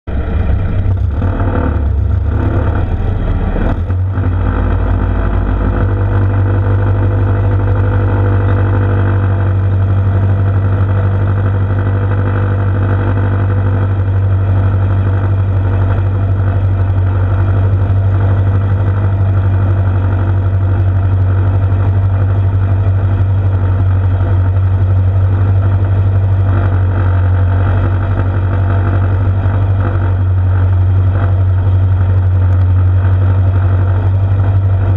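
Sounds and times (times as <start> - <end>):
tractor engine running loud: 0.0 - 34.9.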